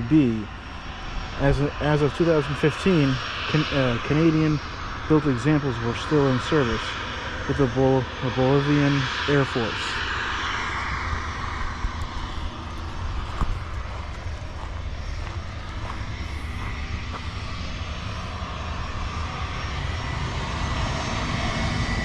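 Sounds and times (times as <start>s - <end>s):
low rumbling noise: 0.0s - 22.0s.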